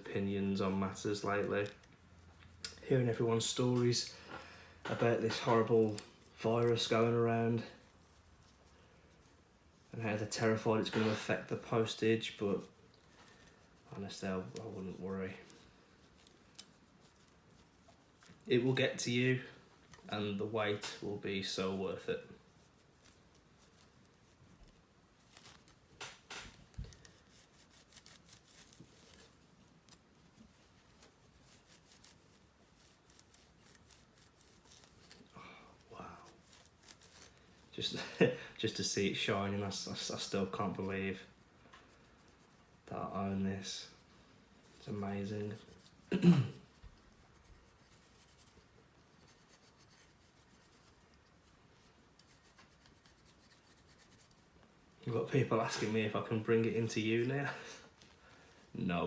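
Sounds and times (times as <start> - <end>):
cloth rubbing on metal: 0.0 - 59.0.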